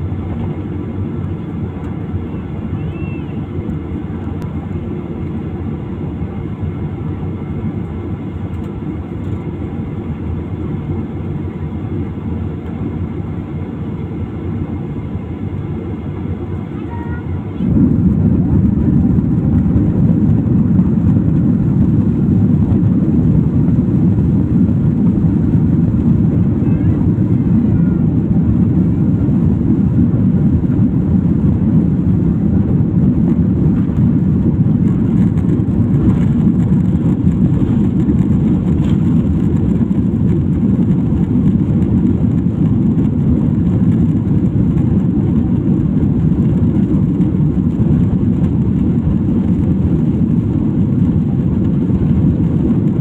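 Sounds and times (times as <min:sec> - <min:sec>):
jet engines rumbling in cabin: 0:00.0 - 0:53.0.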